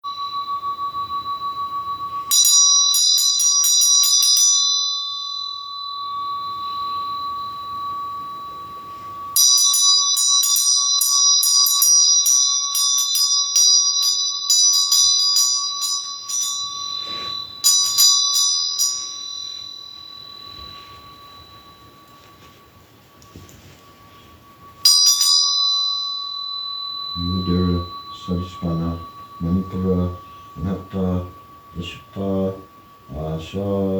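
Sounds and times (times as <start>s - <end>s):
small bell ringing: 0.0s - 33.9s
steady ringing tone: 0.0s - 33.9s.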